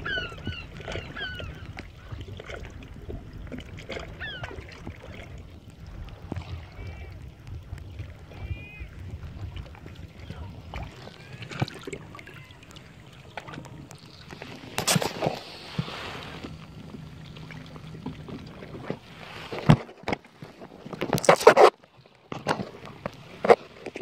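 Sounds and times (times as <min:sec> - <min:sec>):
water splashing and dripping: 0:00.0 - 0:20.2.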